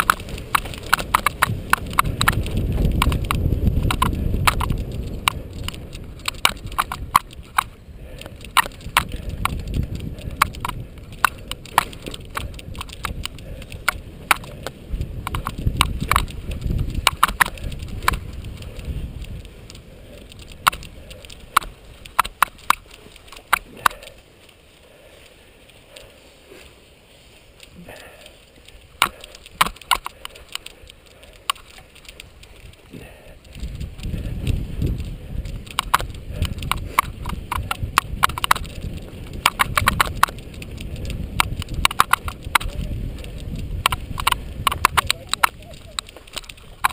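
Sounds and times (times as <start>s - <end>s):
bike clicks and rattles: 0.0s - 46.9s
tyres rumbling on rough ground: 0.0s - 46.9s
wind: 0.0s - 46.9s.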